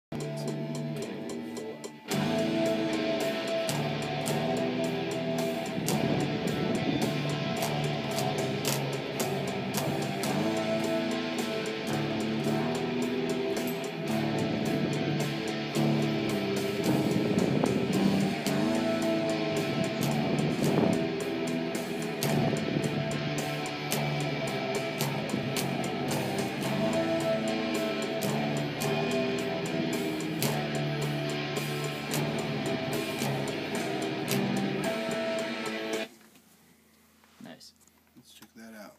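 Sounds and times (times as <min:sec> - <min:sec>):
fretless bass notes: 0:00.0 - 0:36.1
metal backing mix with hits: 0:00.1 - 0:36.1
sharp ticks: 0:00.2 - 0:36.1.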